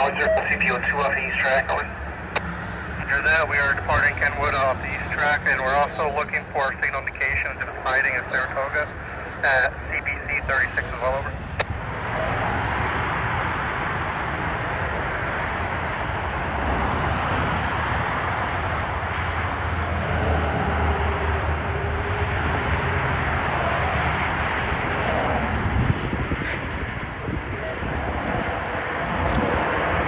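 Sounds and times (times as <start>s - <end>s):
highway traffic passing: 0.0s - 30.0s.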